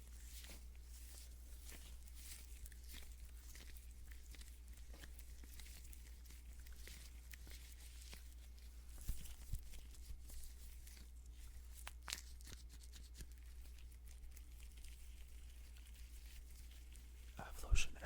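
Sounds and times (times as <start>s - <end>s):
crinkly handling noises: 0.0s - 18.0s
steady low hum: 0.0s - 18.0s.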